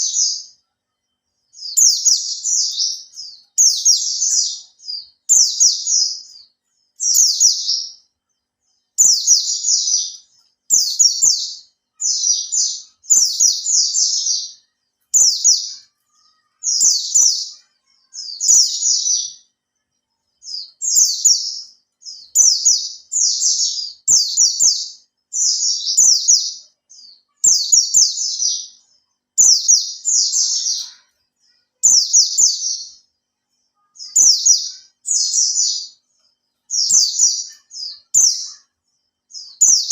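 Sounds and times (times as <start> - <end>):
bird chattering song: 0.0 - 0.6, 1.2 - 19.6, 20.4 - 39.9.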